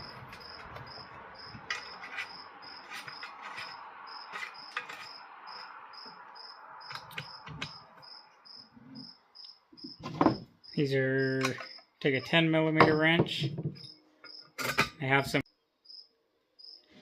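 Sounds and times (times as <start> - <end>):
cricket chirping: 0.0 - 12.4, 13.8 - 14.6, 15.5 - 16.9.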